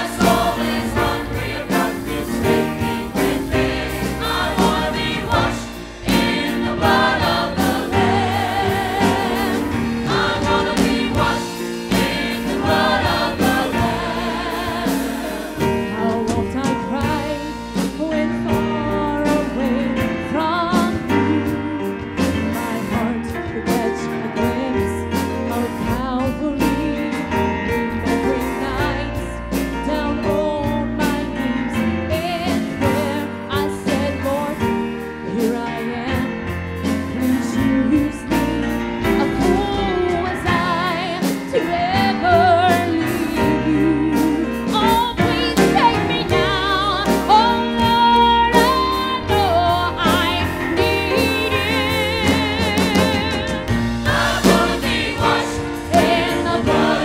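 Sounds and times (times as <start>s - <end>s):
choir singing gospel: 0.0s - 18.5s, 26.6s - 47.8s, 48.5s - 57.0s
instrumental accompaniment: 0.0s - 57.0s.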